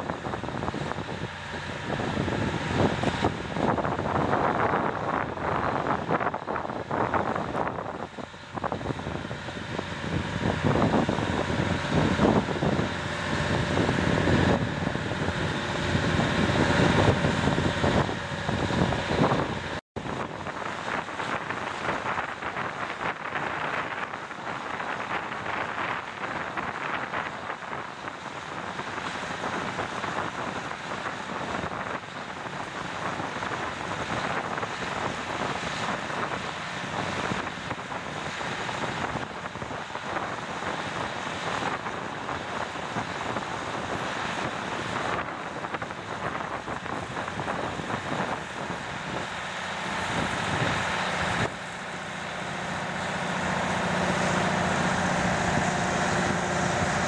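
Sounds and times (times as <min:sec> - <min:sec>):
engine noise: 0:00.0 - 0:57.0
low droning hum: 0:00.0 - 0:57.0.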